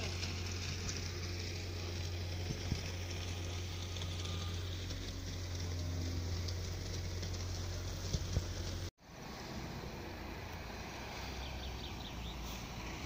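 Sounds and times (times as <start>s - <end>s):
train running hum: 0.0s - 11.3s.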